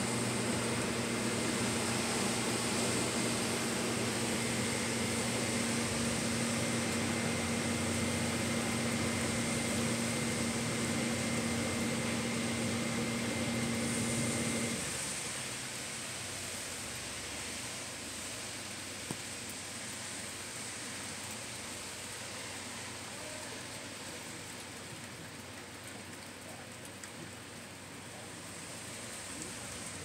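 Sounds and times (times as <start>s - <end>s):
hiss: 0.0s - 24.4s, 28.1s - 30.0s
mechanical hum with whine: 0.0s - 26.5s.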